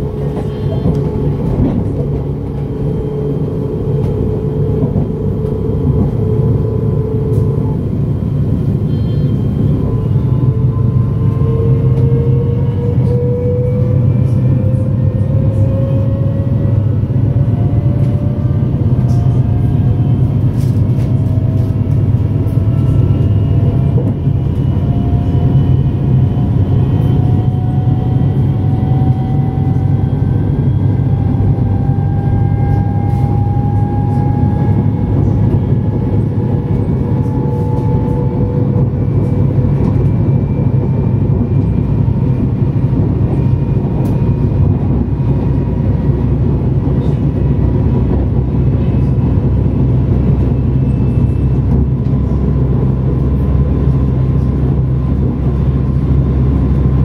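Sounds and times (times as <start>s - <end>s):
train rolling rumble: 0.0s - 57.0s
train traction motor whine: 0.0s - 57.0s.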